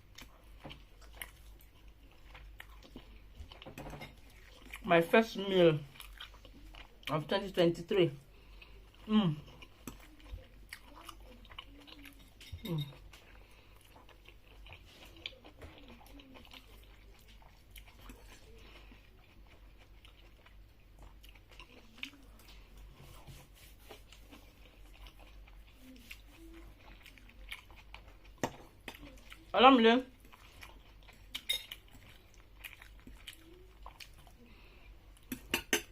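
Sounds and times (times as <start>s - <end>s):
person chewing food: 0.0s - 5.0s, 5.7s - 7.3s, 8.1s - 29.5s, 30.1s - 35.9s.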